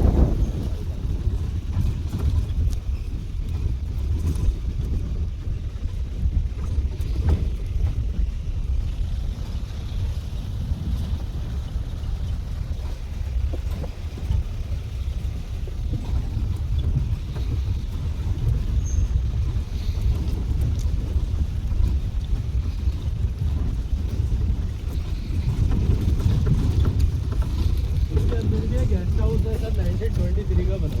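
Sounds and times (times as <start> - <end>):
jeep engine and tyres rumbling: 0.0 - 31.0
wind on microphone: 0.0 - 31.0.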